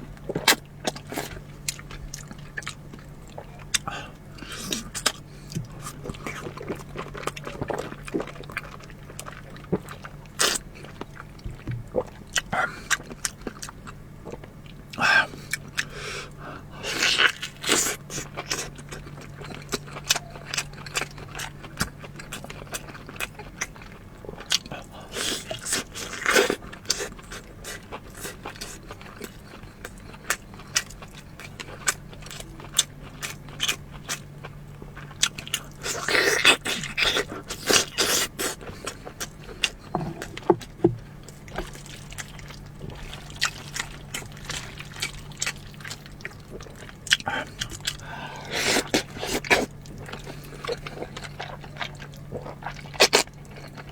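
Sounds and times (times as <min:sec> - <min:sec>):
biting and crunching: 0:00.2 - 0:16.0, 0:16.8 - 0:53.9
chewing and mouth clicks: 0:00.2 - 0:53.9.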